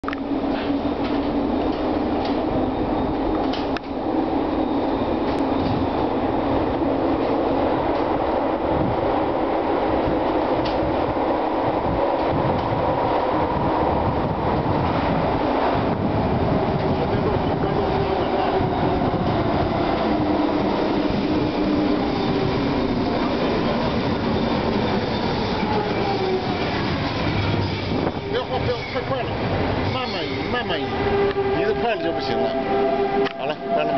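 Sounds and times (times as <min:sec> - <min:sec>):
metro train rumbling: 0:00.0 - 0:33.9.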